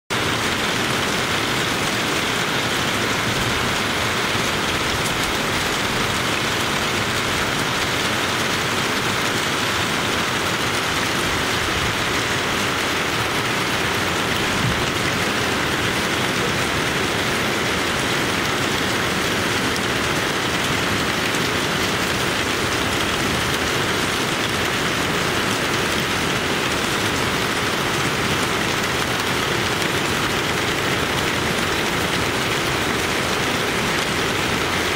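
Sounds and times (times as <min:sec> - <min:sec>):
heavy rain on leaves: 0:00.1 - 0:34.9.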